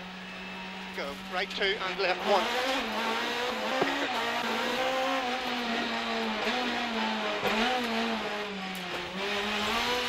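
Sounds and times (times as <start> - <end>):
rally car engine revving: 0.0 - 10.0
road noise: 0.0 - 10.0.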